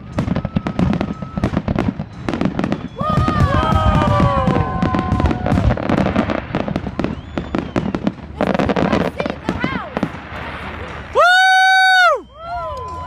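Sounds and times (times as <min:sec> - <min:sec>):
fireworks bursts: 0:00.0 - 0:13.0.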